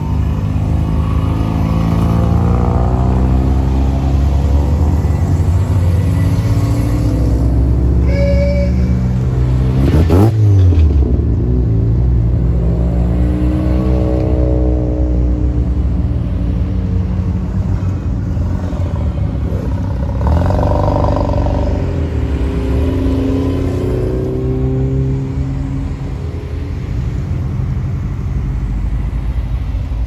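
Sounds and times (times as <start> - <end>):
car engines accelerating: 0.0 - 8.1, 8.9 - 29.2.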